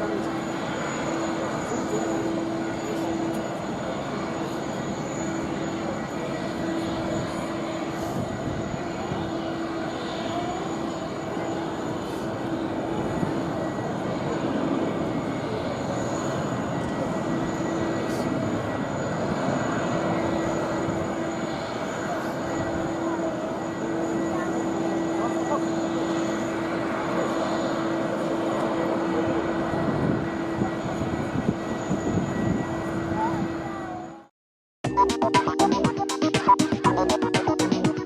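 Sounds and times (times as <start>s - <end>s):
jet engines running: 0.0s - 33.6s, 34.8s - 38.0s.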